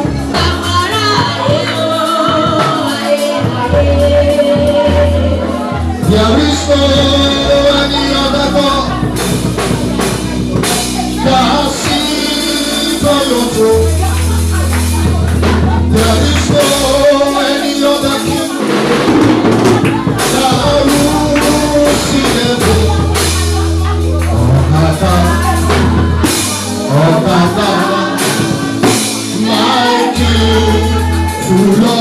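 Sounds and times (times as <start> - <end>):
held bass notes: 0.0 - 32.0
person singing melody: 0.0 - 32.0
steady drum beat: 0.0 - 32.0.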